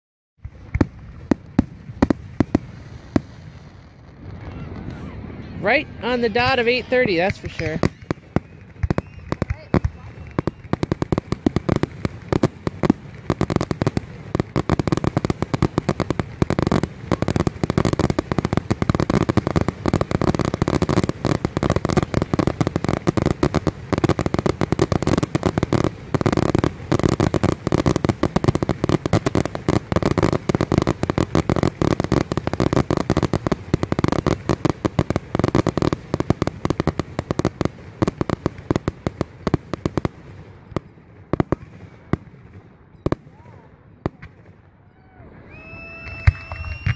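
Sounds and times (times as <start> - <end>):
fireworks bangs and crackles: 0.4 - 46.9.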